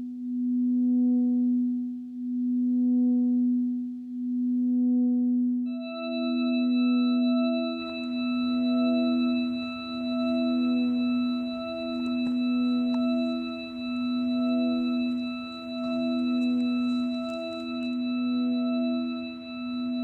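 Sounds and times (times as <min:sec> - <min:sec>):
ringing drone of held tones: 0:00.0 - 0:20.0.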